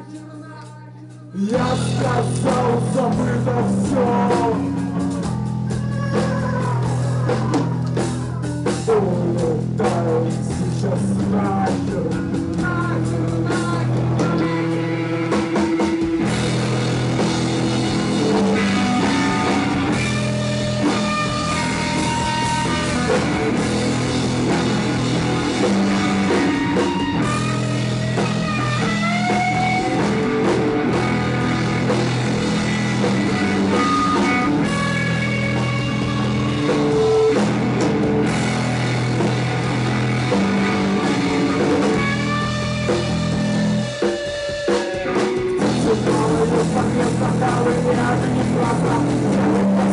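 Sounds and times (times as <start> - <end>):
rock band playing: 0.0 - 49.9
sliding guitar lines: 1.4 - 49.9.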